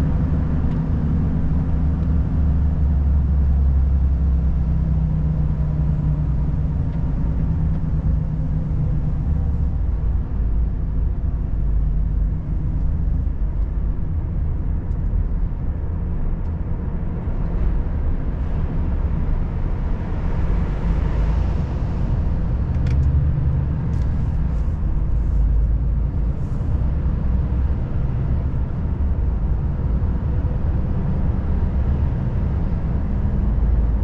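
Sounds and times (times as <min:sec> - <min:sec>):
road and tyre noise: 0:00.0 - 0:34.0.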